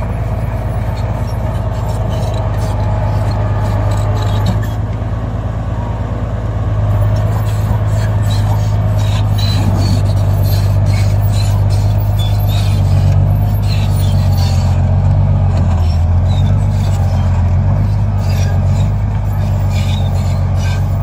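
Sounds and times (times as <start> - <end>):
soil scraping: 0.0 - 4.9, 6.9 - 21.0
bulldozer diesel engine under load: 0.0 - 21.0.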